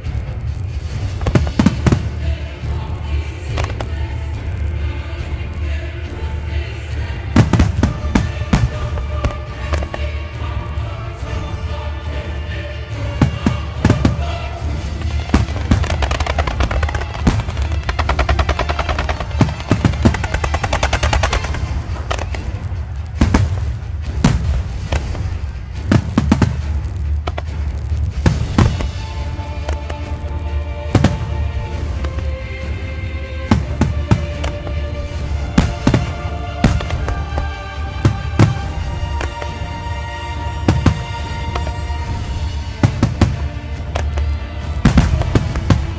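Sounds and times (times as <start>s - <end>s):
fireworks exploding: 0.0s - 5.6s, 6.2s - 10.8s, 12.8s - 45.9s
loud music: 0.0s - 45.9s.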